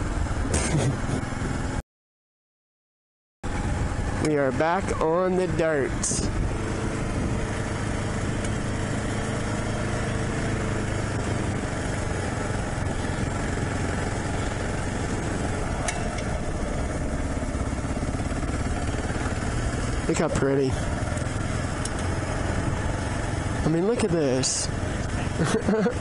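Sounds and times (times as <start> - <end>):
motorcycle engine running: 0.0 - 1.8, 3.4 - 26.0.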